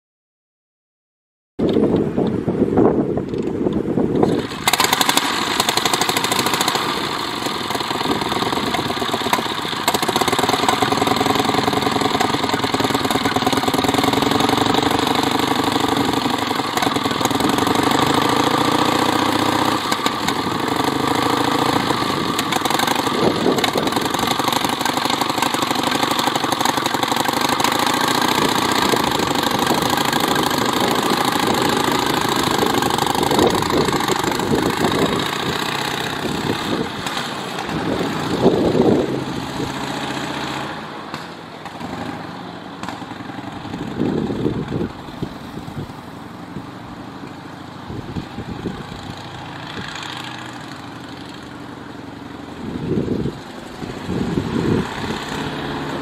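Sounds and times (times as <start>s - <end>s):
motorcycle engine running: 3.4s - 56.0s.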